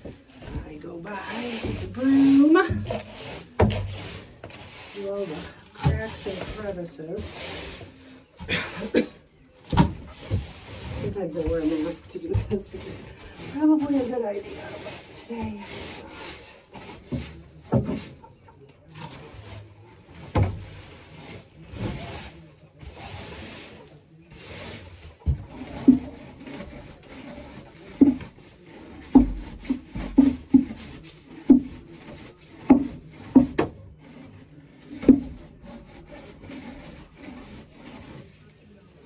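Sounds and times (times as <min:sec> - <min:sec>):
broom sweeping wooden boards: 0:00.0 - 0:39.0.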